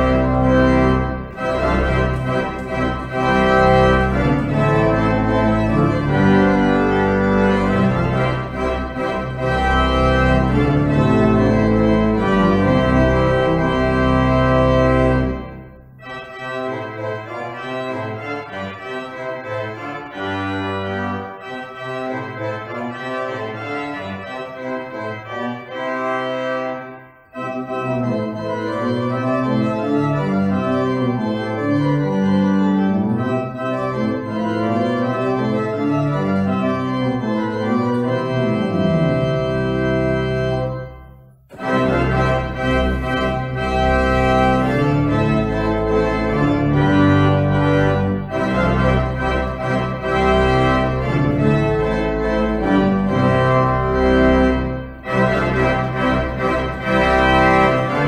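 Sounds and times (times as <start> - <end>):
church organ chords: 0.0 - 58.0
deep organ bass notes: 0.0 - 58.0.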